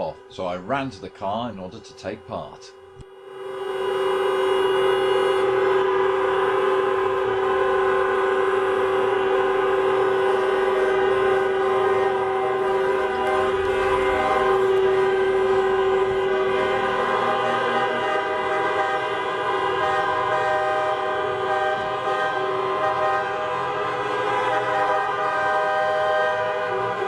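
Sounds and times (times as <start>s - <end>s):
many car horns sounding: 0.0s - 27.0s.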